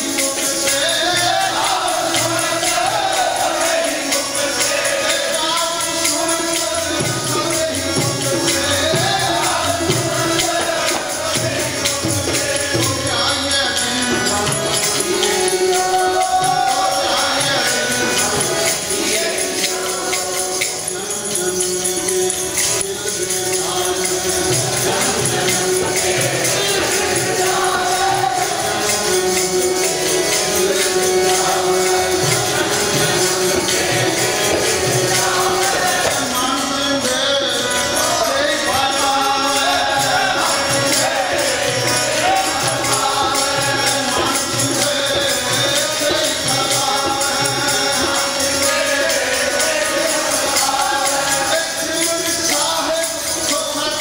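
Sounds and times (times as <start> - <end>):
people singing a hymn: 0.0 - 54.0
tabla playing: 0.0 - 54.0.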